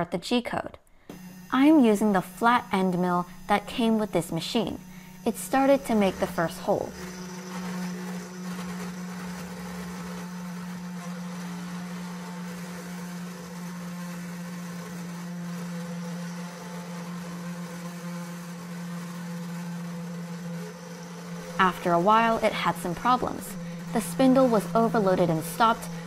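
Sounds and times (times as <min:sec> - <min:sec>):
spindle motor humming: 0:01.0 - 0:26.0
end mill cutting aluminum: 0:01.1 - 0:26.0.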